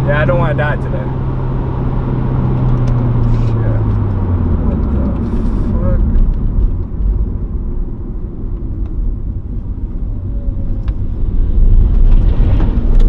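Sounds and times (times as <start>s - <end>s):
car engine and exhaust drone: 0.0s - 13.0s
road noise: 0.0s - 13.0s.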